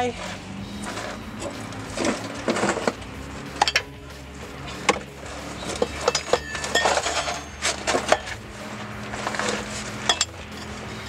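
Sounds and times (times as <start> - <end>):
metallic clinks and knocks: 0.2 - 11.0.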